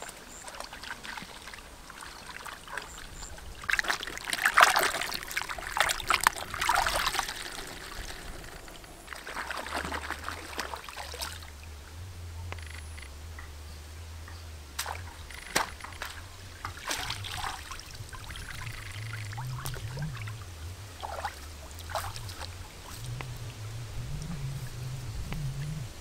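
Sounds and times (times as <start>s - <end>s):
small splashes and drips: 0.0s - 11.9s, 14.7s - 25.8s
water sloshing and trickling: 0.0s - 26.0s.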